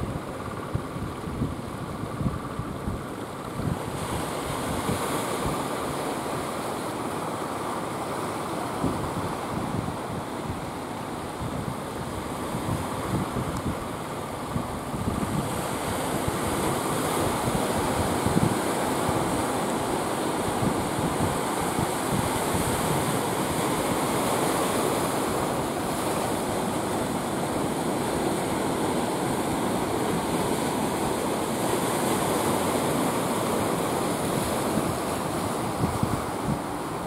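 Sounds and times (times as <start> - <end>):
wind buffeting microphone: 0.0 - 6.5, 8.7 - 37.0
surf washing onto beach: 0.0 - 37.0.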